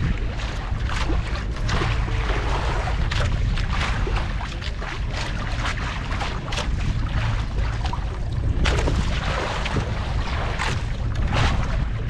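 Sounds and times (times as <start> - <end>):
boat engine running: 0.0 - 12.0
short splashes: 0.0 - 12.0
wind on microphone: 0.0 - 12.0.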